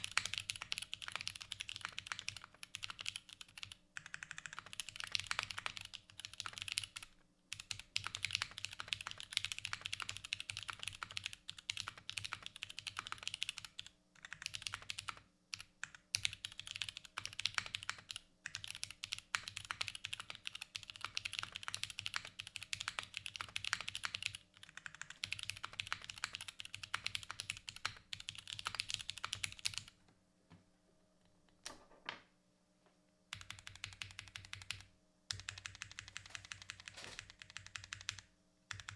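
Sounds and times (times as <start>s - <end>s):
typing on mechanical keyboard: 0.0s - 29.9s, 33.3s - 38.9s.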